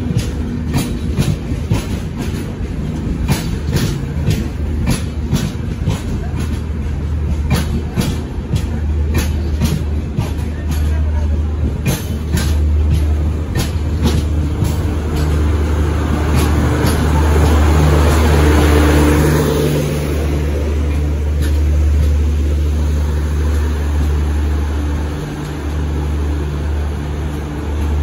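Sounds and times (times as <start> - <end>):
train wheels clicking over rail joints: 0.0 - 28.0.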